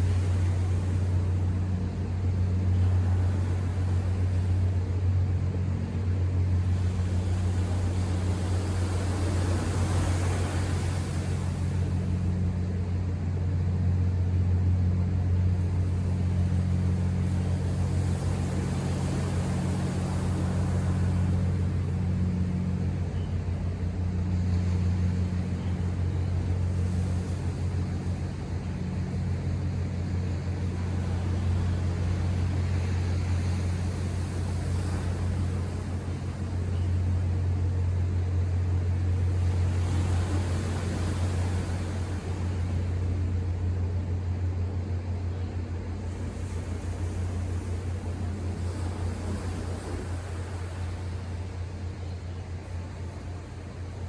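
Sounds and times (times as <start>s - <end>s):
low motor hum: 0.0s - 54.0s
ocean surf washing in: 0.0s - 54.0s.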